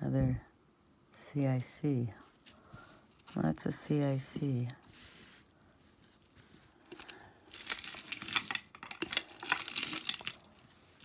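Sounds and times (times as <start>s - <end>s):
beads and chains rattling: 1.4s - 11.0s.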